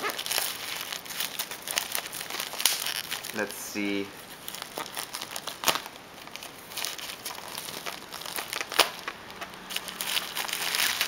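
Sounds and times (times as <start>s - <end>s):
packaging wrapper crinkling: 0.0s - 11.0s.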